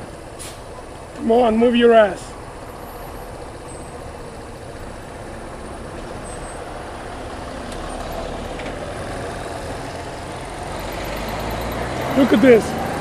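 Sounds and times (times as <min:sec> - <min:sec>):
city traffic with heavy vehicles: 0:00.0 - 0:13.0
motorcycle engine: 0:02.2 - 0:13.0.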